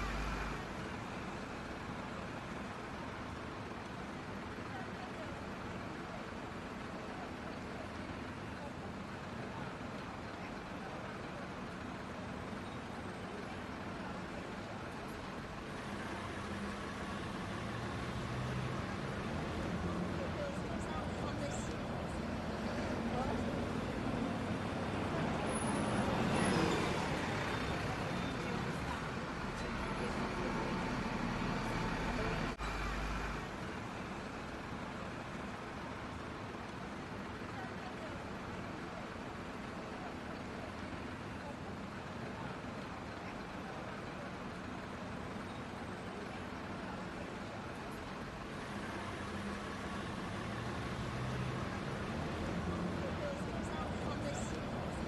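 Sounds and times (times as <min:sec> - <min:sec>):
urban traffic noise: 0:00.0 - 0:55.0.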